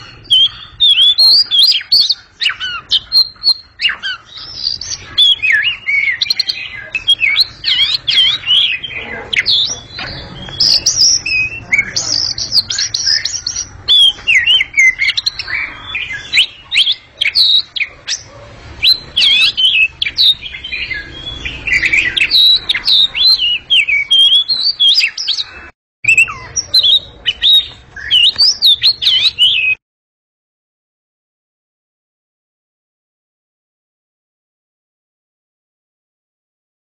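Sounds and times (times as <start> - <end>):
magpie-robin singing: 0.0 - 29.8.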